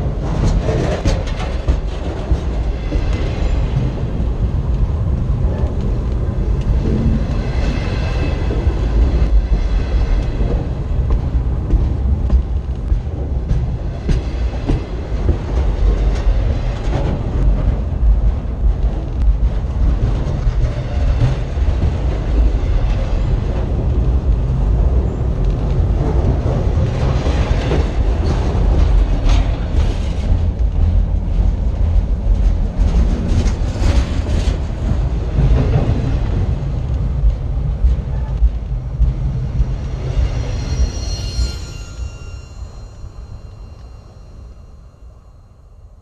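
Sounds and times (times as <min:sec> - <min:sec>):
wheels clanking and rattling: 0:00.0 - 0:42.3
freight train rumbling overhead: 0:00.0 - 0:46.0.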